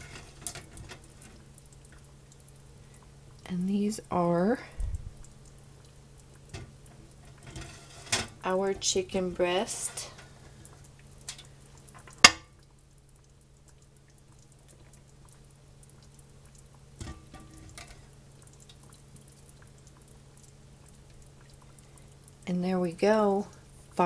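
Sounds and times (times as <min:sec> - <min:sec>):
steady low hum: 0:00.0 - 0:22.5.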